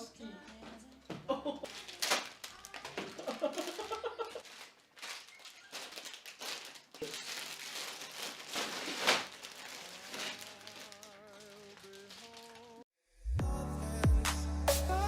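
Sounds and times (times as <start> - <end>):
plastic crinkling and rustling: 0.4 - 12.8.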